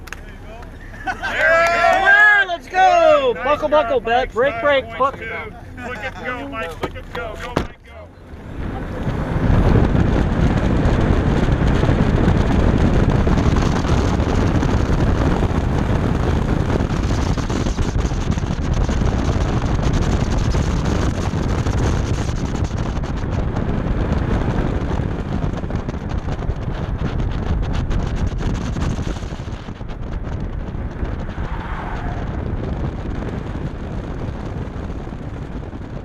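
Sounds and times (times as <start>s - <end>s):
car engine accelerating hard: 0.0s - 36.0s
wind on microphone: 2.8s - 36.0s.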